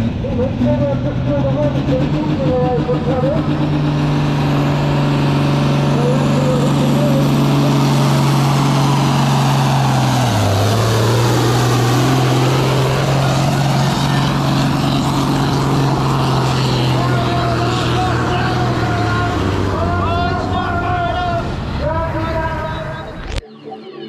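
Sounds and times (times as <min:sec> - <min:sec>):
tractor engine running at high revs: 0:00.0 - 0:23.4.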